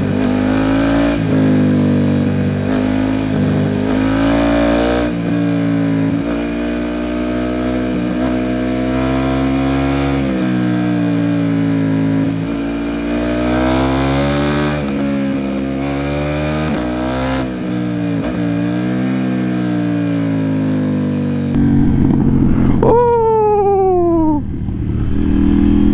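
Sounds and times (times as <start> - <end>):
motorcycle engine accelerating: 0.0 - 25.9.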